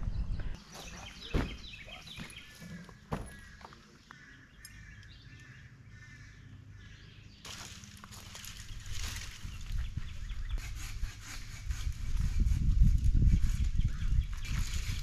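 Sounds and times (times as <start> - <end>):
songbirds chirping: 0.0 - 12.0, 12.9 - 15.0.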